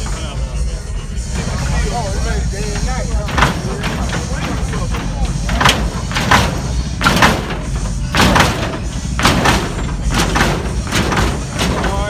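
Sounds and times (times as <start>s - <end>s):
steady low rumble: 0.0s - 12.0s
hydraulic suspension clunks: 1.2s - 12.0s.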